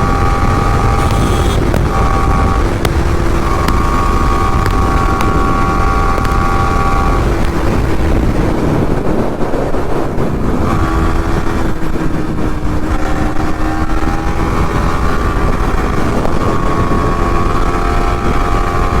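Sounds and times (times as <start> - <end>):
motorcycle engine: 0.0 - 19.0
wind buffeting microphone: 0.0 - 19.0.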